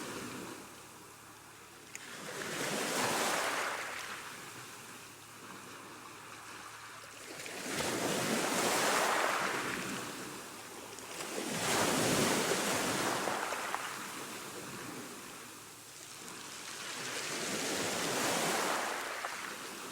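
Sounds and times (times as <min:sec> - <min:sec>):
ocean waves: 0:00.0 - 0:19.9.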